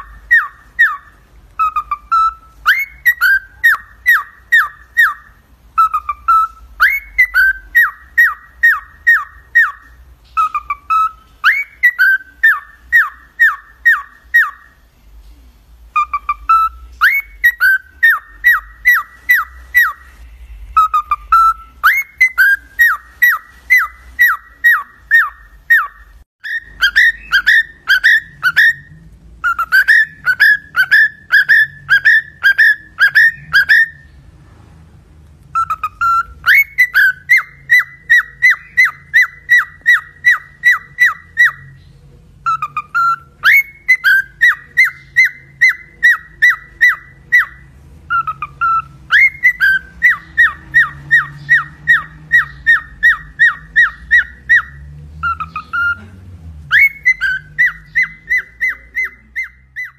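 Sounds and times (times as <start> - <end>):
cockatiel whistling: 0.0 - 14.8, 15.9 - 34.2, 35.5 - 41.8, 42.4 - 56.1, 56.7 - 59.9.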